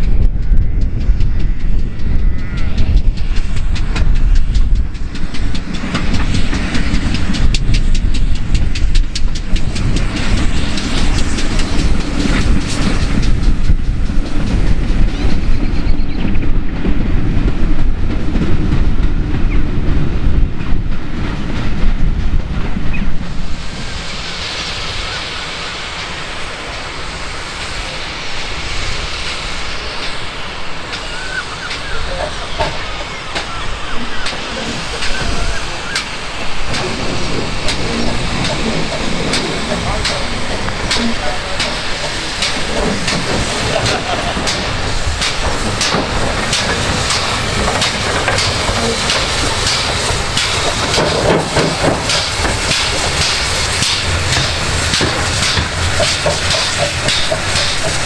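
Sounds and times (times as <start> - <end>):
steam hissing: 0.0 - 58.0
train wheels clicking over rail joints: 0.0 - 58.0.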